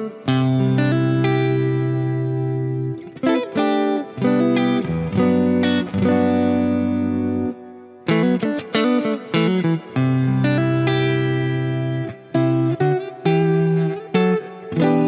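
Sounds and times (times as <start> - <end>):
electric guitar with effects: 0.0 - 15.0.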